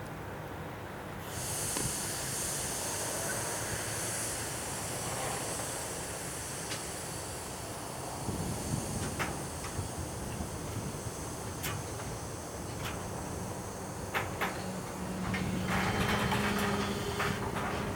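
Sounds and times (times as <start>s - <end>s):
freight train rumble: 1.0s - 17.9s
loud high hiss: 1.2s - 17.9s.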